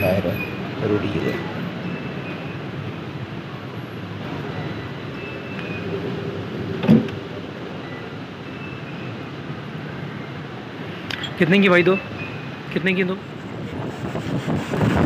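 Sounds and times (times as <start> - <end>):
traffic-like hum: 0.0 - 15.0.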